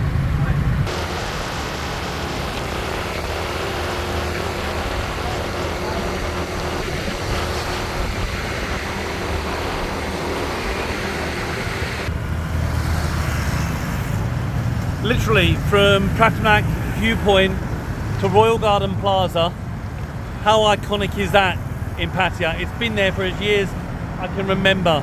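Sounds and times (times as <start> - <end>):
city traffic: 0.0 - 25.0
motorbike engine: 0.0 - 25.0
road noise: 0.0 - 25.0.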